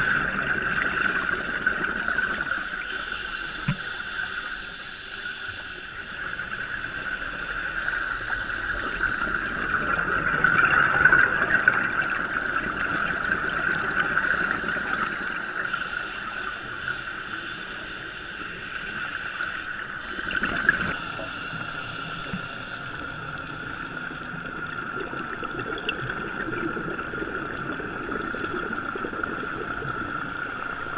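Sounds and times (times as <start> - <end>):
steady underwater whine: 0.0 - 30.9
underwater rushing noise: 0.0 - 30.9.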